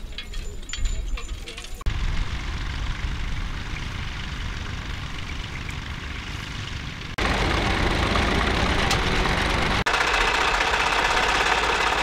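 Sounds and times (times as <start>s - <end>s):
tractor engine running: 0.0s - 12.0s
louder tractor engine: 1.8s - 12.0s.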